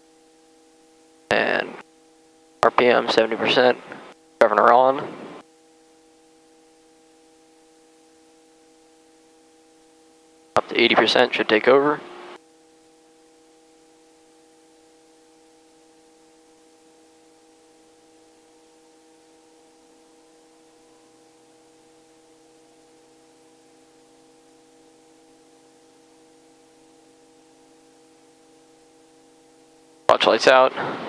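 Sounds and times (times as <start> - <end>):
faint hum of fixed tones: 0.0 - 31.0.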